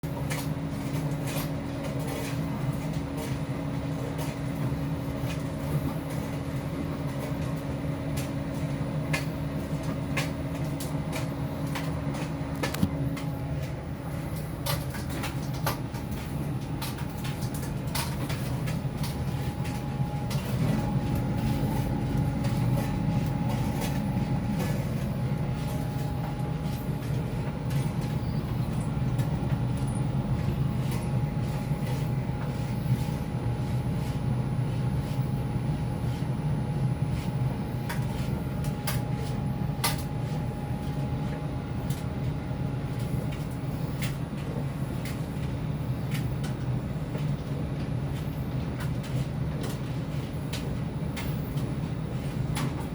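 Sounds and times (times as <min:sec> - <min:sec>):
tumble dryer humming: 0:00.0 - 0:52.9.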